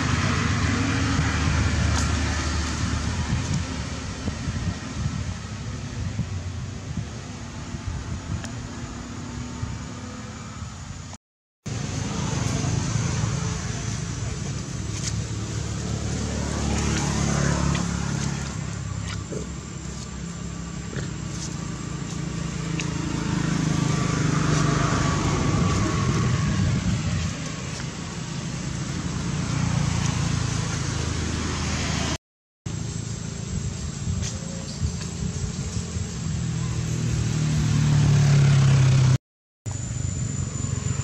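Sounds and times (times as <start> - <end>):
road traffic: 0.0 - 41.0
vehicles passing by: 0.0 - 41.0.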